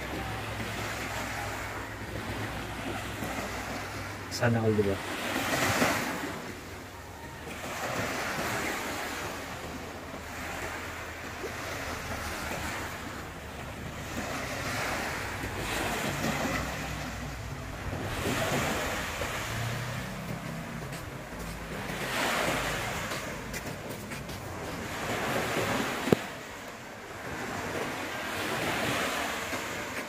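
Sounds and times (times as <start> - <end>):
small waves washing onto sand: 0.0 - 30.0
wind rumbling on microphone: 5.6 - 30.0.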